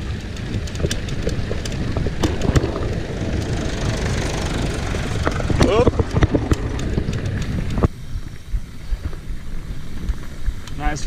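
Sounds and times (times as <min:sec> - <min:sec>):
bike clicks and knocks: 0:00.0 - 0:10.9
wind and tyre rumble: 0:00.0 - 0:11.0.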